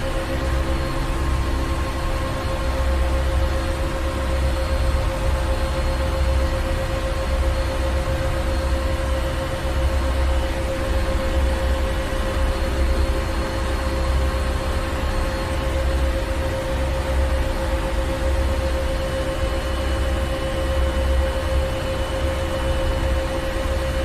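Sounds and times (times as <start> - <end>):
constant hum: 0.0 - 24.0.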